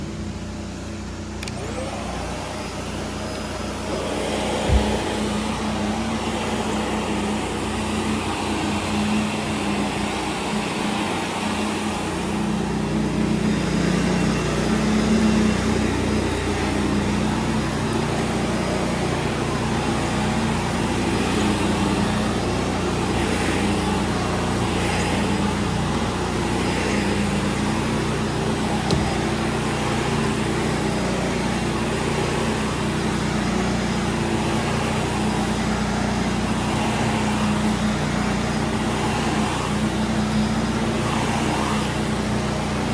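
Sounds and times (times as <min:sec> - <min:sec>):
pressure washer drone: 0:00.0 - 0:42.9
vacuum cleaner on carpet: 0:00.0 - 0:42.9.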